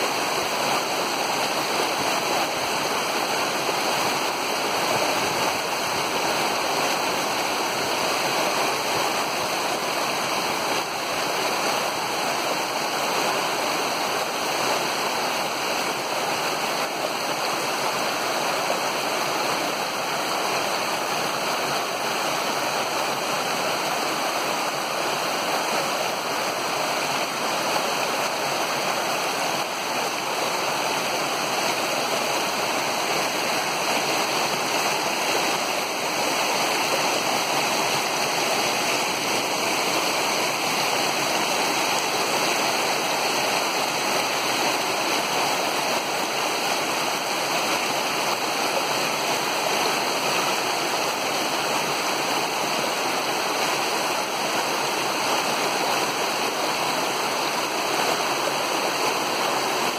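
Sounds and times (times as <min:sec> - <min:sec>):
creek cascading over rocks: 0:00.0 - 0:59.9.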